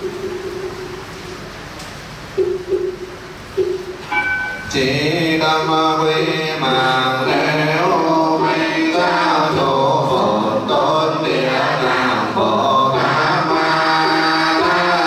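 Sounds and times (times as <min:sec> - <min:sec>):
sustained accompaniment: 0:02.4 - 0:15.0.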